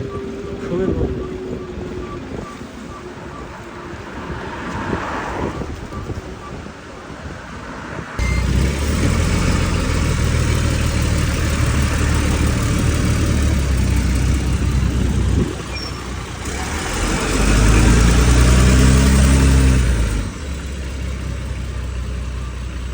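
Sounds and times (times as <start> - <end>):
bus engine running: 0.0 - 22.9.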